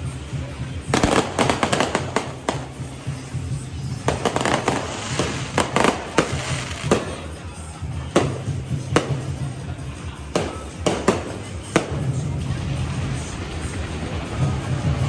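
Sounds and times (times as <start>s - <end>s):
fireworks and firecrackers bangs: 0.0s - 15.0s
music playing: 0.0s - 15.0s.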